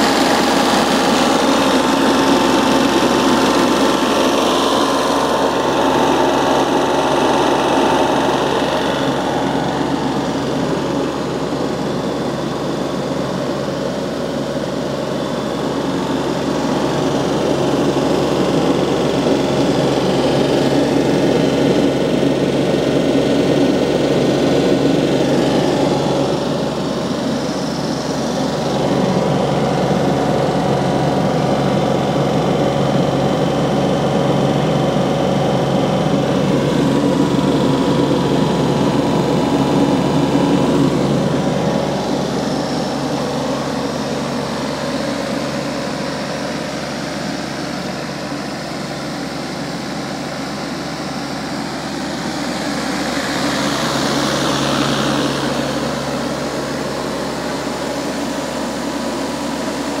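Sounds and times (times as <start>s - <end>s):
diesel generator running: 0.0s - 60.0s.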